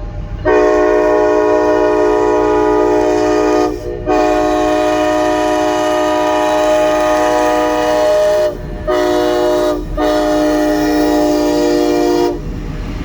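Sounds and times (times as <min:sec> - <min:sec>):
locomotive air horn chord: 0:00.4 - 0:12.5.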